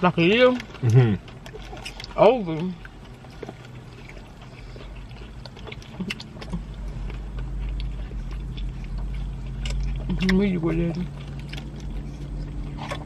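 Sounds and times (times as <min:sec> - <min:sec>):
car engine rumble inside cabin: 0:00.0 - 0:13.0
light clicks and crunches: 0:00.0 - 0:13.0.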